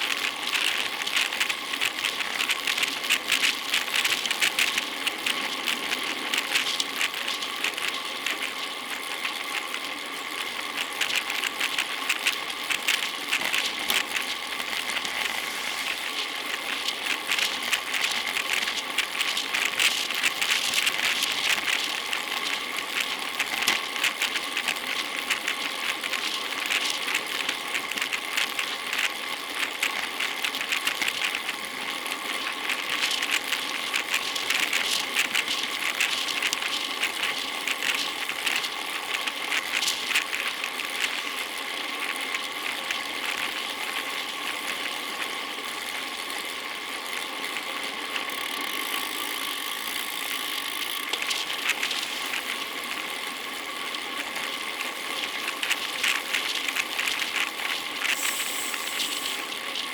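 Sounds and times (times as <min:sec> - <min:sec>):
bicycle drivetrain ticking and rattling: 0:00.0 - 0:59.9.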